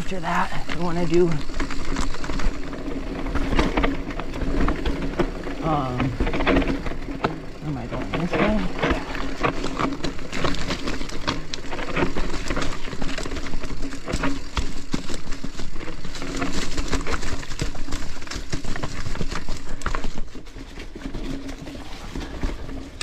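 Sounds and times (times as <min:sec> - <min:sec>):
bike clattering and rattling: 0:00.0 - 0:23.0
bike tyres crunching leaves: 0:00.0 - 0:23.0.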